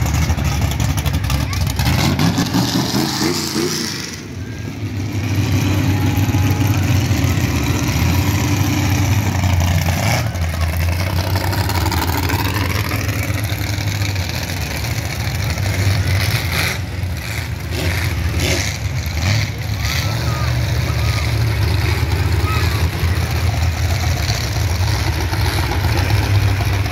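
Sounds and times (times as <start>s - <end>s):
car engines rumbling: 0.0s - 26.9s.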